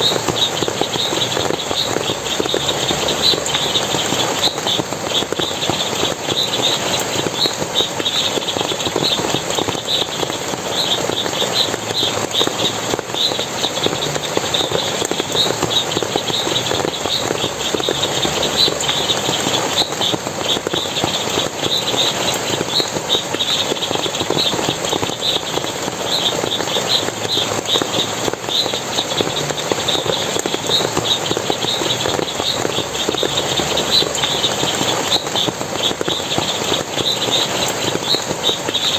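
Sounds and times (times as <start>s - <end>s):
stream splashing and rushing: 0.0s - 38.9s.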